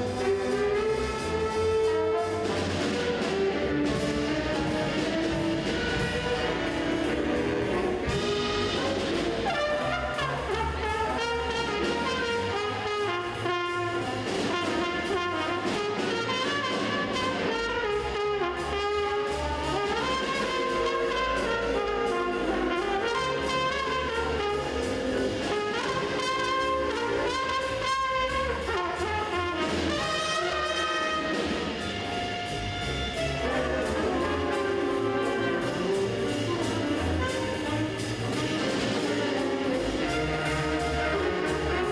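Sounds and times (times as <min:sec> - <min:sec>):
jazz band playing swing: 0:00.0 - 0:41.9.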